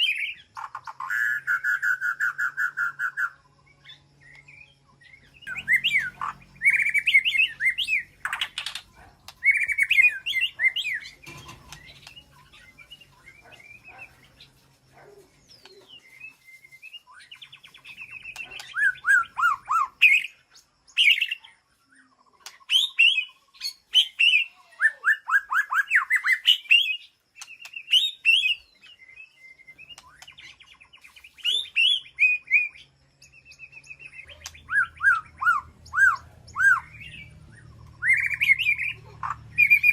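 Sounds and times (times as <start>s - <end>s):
bird singing rich whistles: 0.0s - 8.8s, 9.4s - 11.0s, 15.5s - 20.4s, 22.6s - 39.9s.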